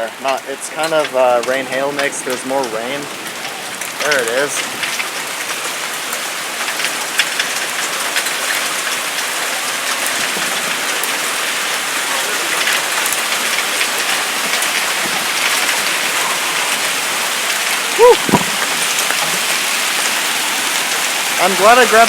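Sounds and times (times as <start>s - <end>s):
hailstones ticking: 0.0s - 22.0s
heavy rain hissing: 0.0s - 22.0s.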